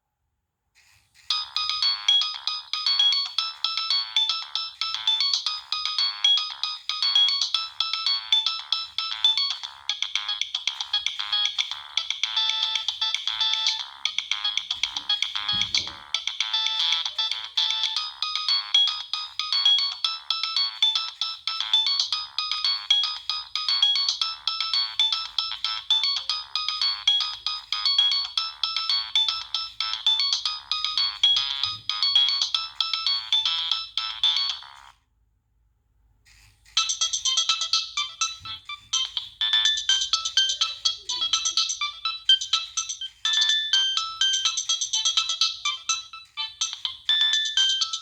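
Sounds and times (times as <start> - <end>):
electronic phone ringtone: 1.2 - 35.0, 36.7 - 48.0.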